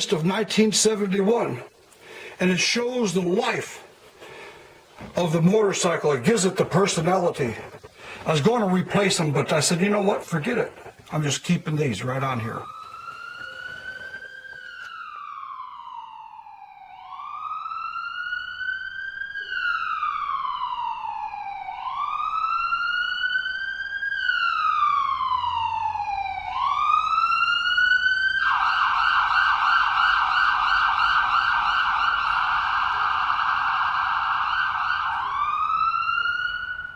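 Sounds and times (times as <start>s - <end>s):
emergency vehicle siren: 2.6s - 36.9s.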